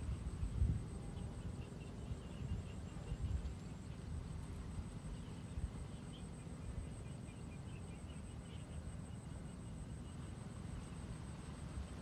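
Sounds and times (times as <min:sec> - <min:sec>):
faint steady high whine: 0:00.0 - 0:12.0
low wind rumble: 0:00.0 - 0:12.0.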